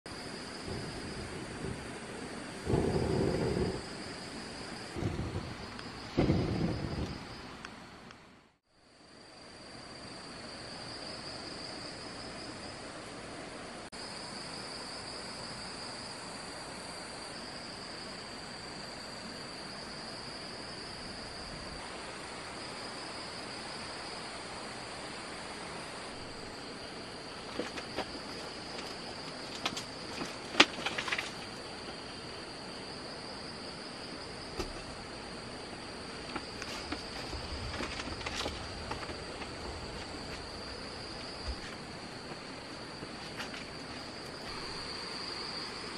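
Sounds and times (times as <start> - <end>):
insects trilling: 0.1 - 45.9.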